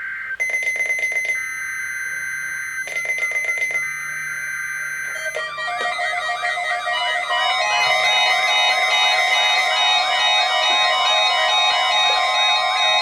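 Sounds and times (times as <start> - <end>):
crackly static: 0.0 - 13.0
long warning alarm tone: 0.4 - 13.0.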